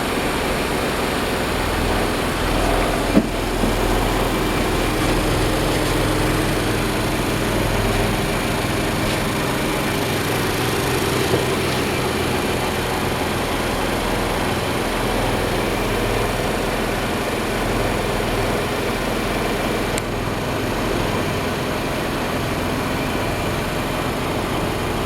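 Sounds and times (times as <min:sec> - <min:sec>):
marine diesel engine running: 0:00.0 - 0:25.0.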